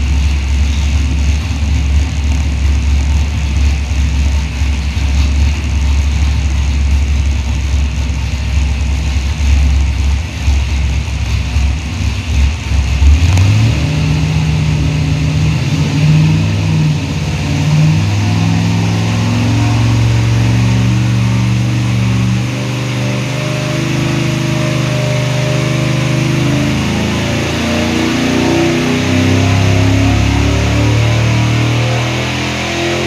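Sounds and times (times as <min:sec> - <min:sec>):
car engine cranking and revving: 0:00.0 - 0:33.0.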